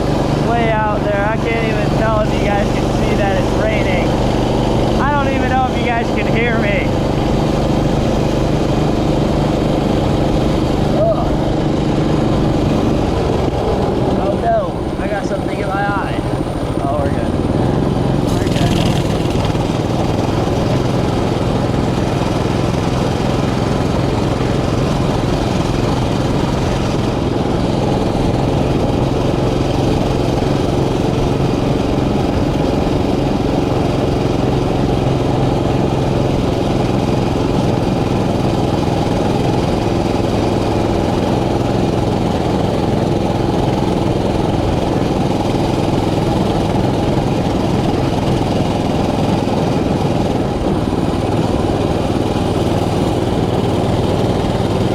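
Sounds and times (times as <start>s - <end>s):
mini bike engine running: 0.0s - 54.9s.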